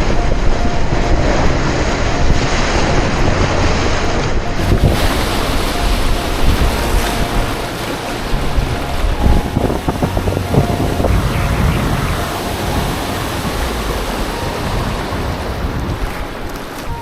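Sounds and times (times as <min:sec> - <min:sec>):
river whitewater roaring: 0:00.0 - 0:17.0
wind rumble on microphone: 0:00.0 - 0:17.0.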